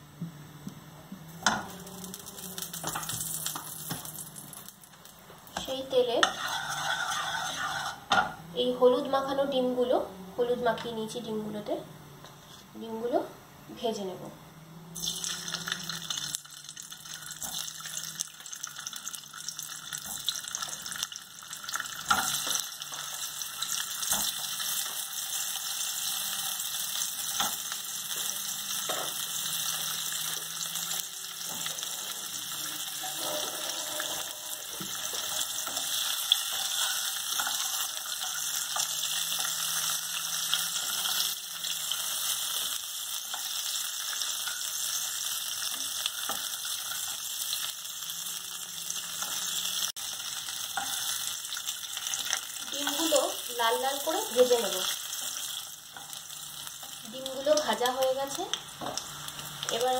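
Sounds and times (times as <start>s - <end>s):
eggs sizzling in hot oil: 1.2s - 8.5s, 14.9s - 59.9s.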